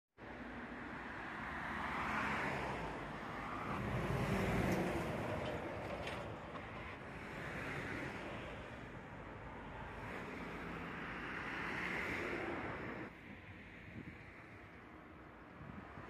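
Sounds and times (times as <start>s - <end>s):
road traffic passing: 0.2s - 16.0s.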